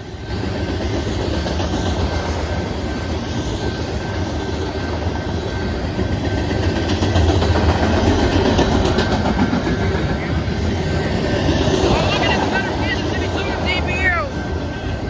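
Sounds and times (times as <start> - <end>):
wheels clacking over rail joints: 0.0 - 13.2
freight train wheels rumbling: 0.0 - 15.0.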